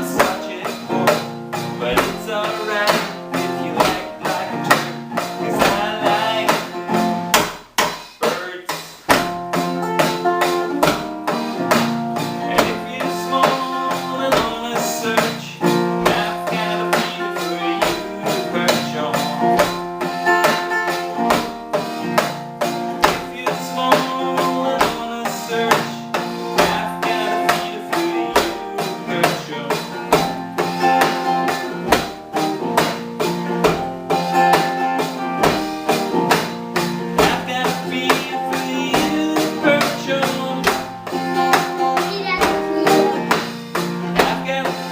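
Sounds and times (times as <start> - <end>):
live guitar music: 0.0 - 44.9.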